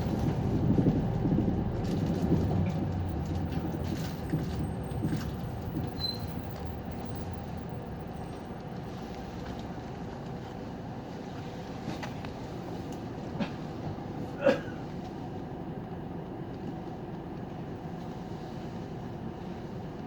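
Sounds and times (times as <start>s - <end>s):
bus engine idling: 0.0s - 20.0s
road noise: 0.0s - 20.0s.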